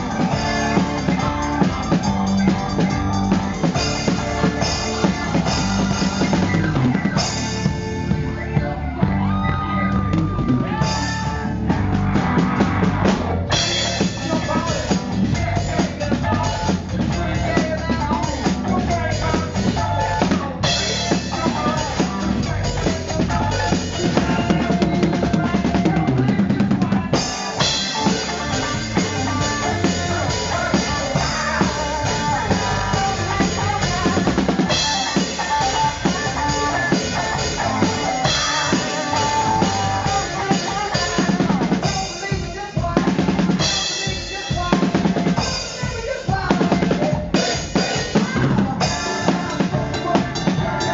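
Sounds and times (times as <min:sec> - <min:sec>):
bass drum and snare beat: 0:00.0 - 0:50.9
rock music: 0:00.0 - 0:50.9.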